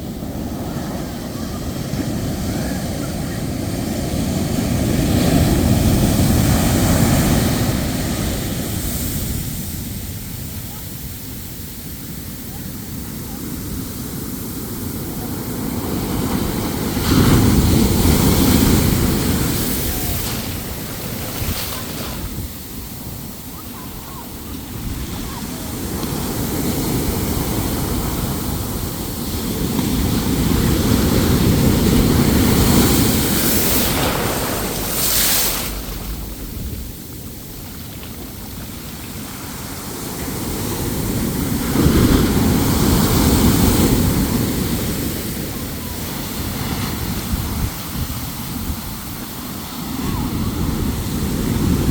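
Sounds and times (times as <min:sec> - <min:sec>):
ocean waves breaking: 0:00.0 - 0:51.9
wind buffeting microphone: 0:00.0 - 0:51.9.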